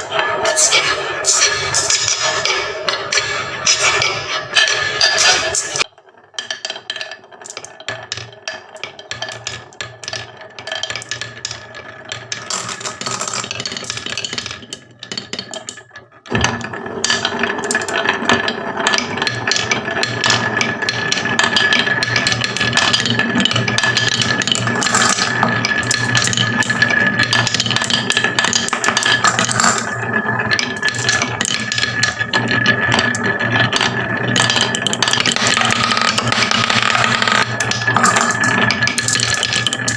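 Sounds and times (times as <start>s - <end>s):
marbles rattling down wooden run: 6.3s - 39.9s.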